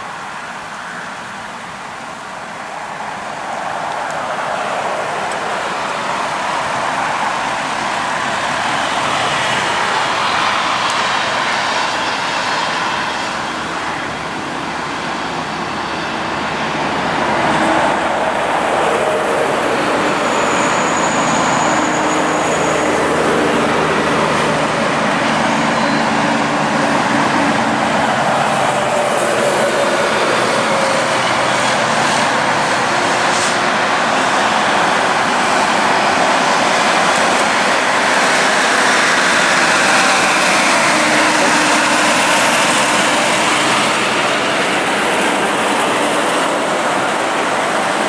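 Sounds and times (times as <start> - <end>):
diesel engine drone: 0.0 - 48.0
highway traffic tyre noise: 0.0 - 48.0.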